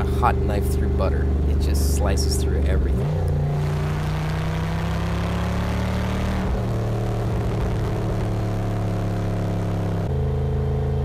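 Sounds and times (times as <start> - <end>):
car engine and exhaust running: 0.0 - 11.0
road and tyre noise: 0.0 - 11.0.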